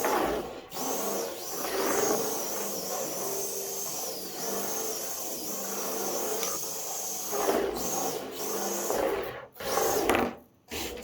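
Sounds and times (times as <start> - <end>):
small electric motor whining: 0.0 - 10.1.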